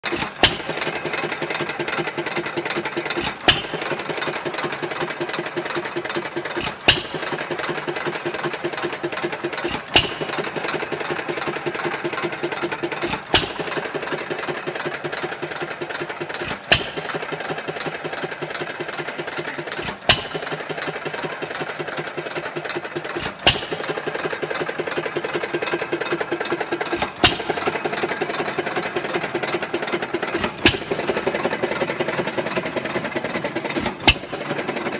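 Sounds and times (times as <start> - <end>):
rhythmic mechanical clatter: 0.0 - 34.9.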